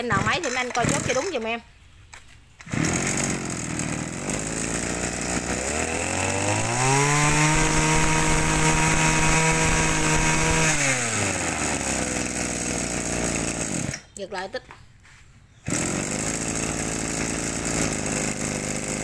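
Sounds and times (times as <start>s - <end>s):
brush cutter engine revving: 0.0s - 1.6s, 2.6s - 14.2s, 15.6s - 19.0s.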